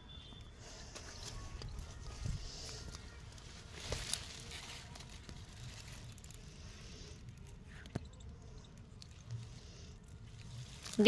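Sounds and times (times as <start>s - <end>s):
rustling among leafy plants: 0.4s - 7.9s, 8.6s - 11.0s.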